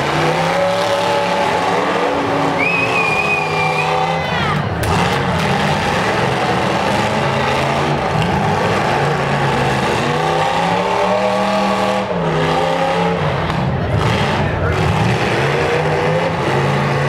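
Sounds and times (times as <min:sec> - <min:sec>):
car engines revving high: 0:00.0 - 0:17.0.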